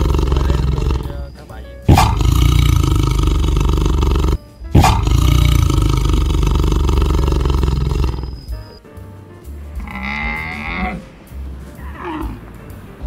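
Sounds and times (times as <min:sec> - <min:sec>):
tiger roaring: 0:00.0 - 0:08.5, 0:09.8 - 0:11.1, 0:11.8 - 0:12.5
background music: 0:00.0 - 0:13.0.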